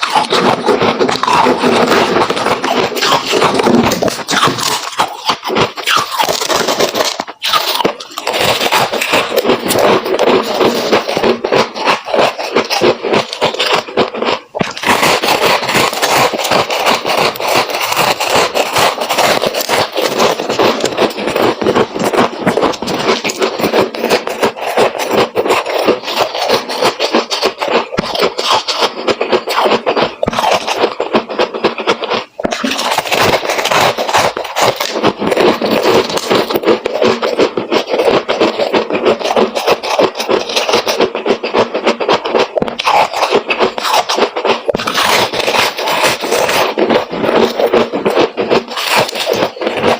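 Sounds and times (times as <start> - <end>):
frost being chewed: 0.0 - 49.9.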